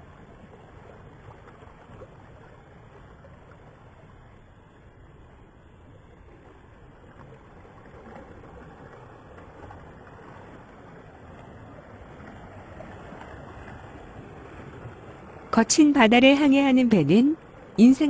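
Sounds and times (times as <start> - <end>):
waves rushing around a ship: 0.0 - 18.0.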